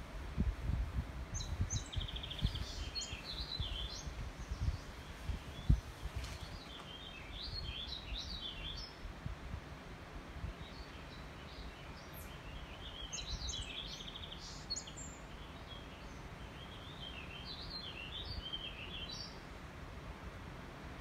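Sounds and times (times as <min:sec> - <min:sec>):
songbird chirping: 0:01.3 - 0:09.1, 0:10.4 - 0:19.6.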